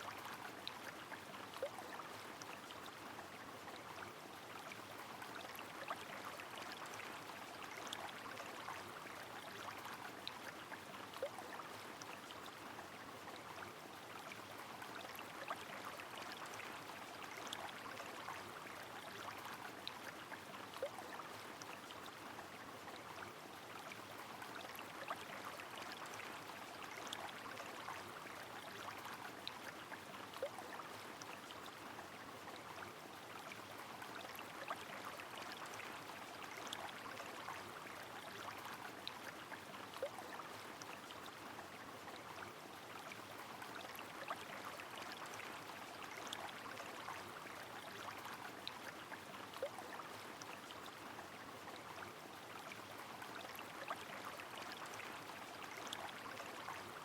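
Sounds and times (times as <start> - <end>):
flowing river: 0.0 - 57.0.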